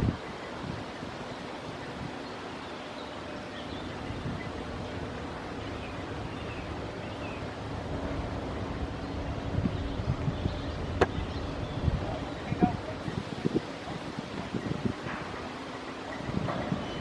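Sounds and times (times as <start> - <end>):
wind noise on microphone: 0.0 - 2.4, 3.6 - 17.0
ship engine humming: 0.0 - 17.0
water: 0.0 - 17.0.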